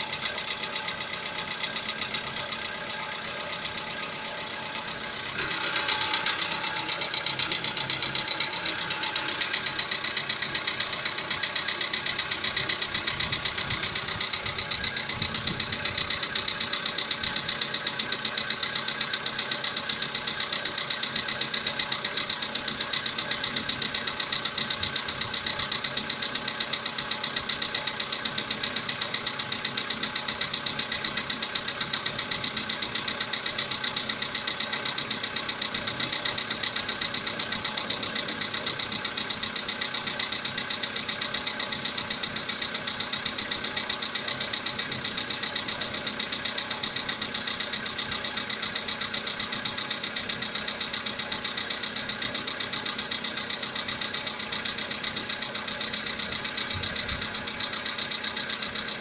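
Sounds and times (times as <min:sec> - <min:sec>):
car engine idling with knock: 0:00.0 - 0:59.0.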